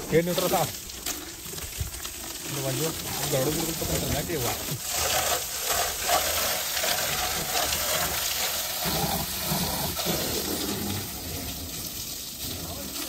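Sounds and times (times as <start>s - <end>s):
water hose spraying and splashing: 0.0s - 13.0s.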